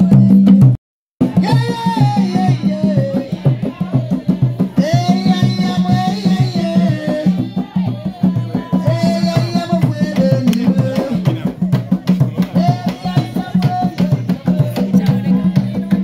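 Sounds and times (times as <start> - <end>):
fast steady drumming: 0.0 - 16.0.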